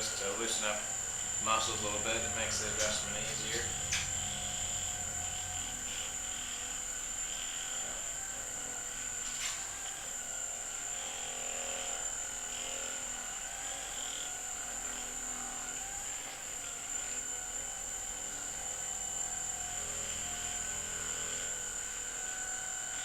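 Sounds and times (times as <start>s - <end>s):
electric massager motor whirring: 0.0s - 23.0s.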